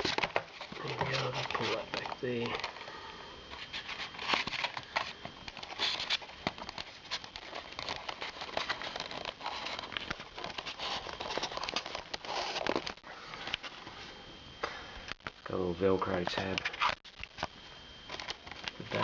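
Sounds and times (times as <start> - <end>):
foam crinkling and rustling: 0.0 - 14.0, 15.8 - 19.0.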